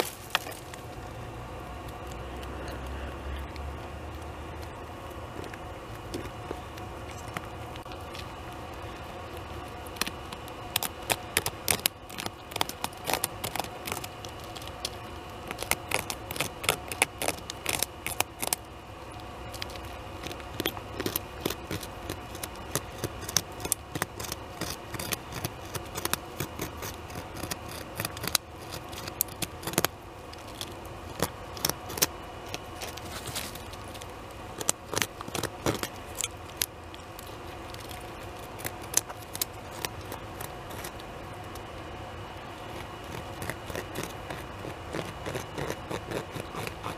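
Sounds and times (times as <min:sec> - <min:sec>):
beaver gnawing bark: 0:00.0 - 0:46.9.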